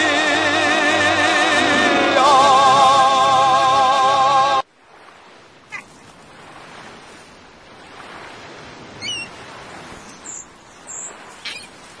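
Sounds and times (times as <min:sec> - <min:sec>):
sea ambience: 0:00.0 - 0:12.0.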